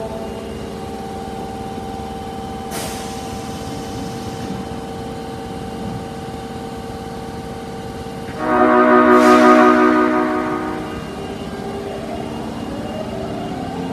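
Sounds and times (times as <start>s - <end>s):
train electrical hum: 0.0s - 13.9s.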